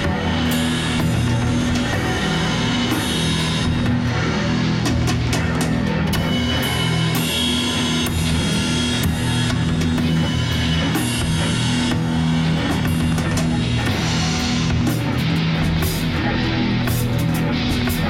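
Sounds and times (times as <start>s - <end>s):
drum and cymbal hits: 0.0s - 18.0s
rock band with guitar and bass: 0.0s - 18.0s.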